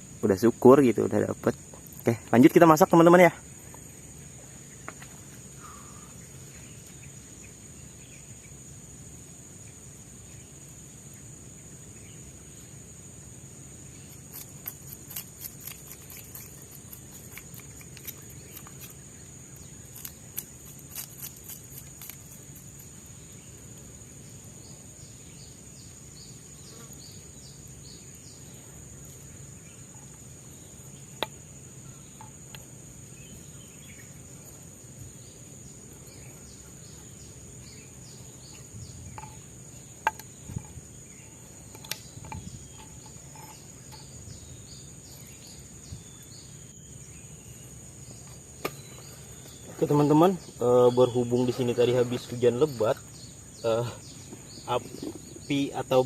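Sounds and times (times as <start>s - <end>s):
crickets droning: 0.0s - 56.0s.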